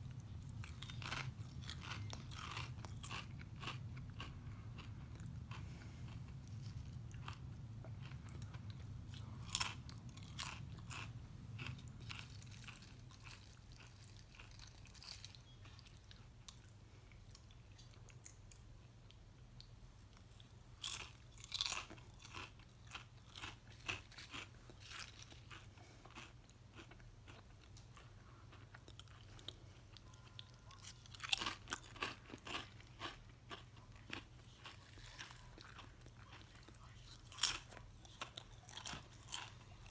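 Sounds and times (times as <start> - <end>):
chips crunching being chewed: 0.0 - 18.7, 20.1 - 39.9.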